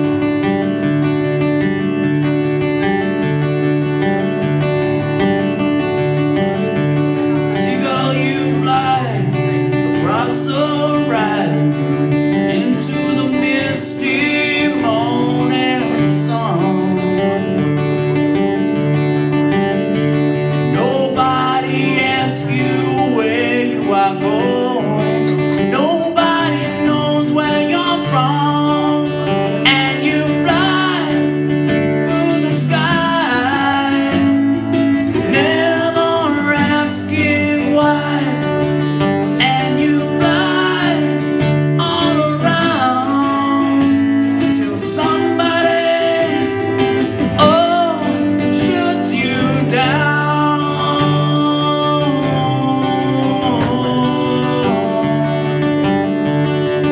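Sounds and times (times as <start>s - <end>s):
acoustic guitar strumming: 0.0s - 56.9s
man singing: 4.6s - 17.9s, 19.5s - 56.9s.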